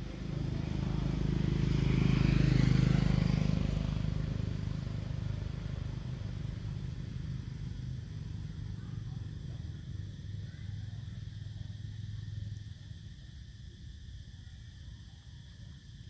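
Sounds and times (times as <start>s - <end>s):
vehicle engine droning: 0.0s - 13.2s.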